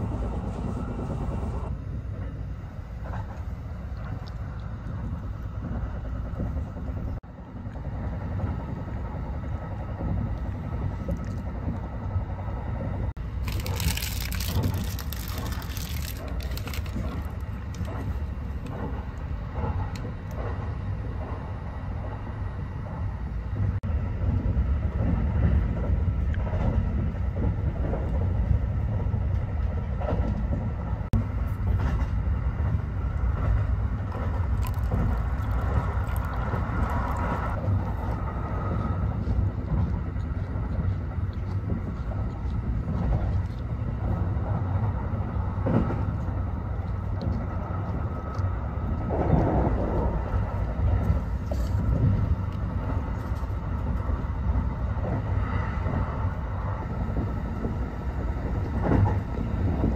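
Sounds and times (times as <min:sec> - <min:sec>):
train cabin rumble: 0:00.0 - 0:59.9.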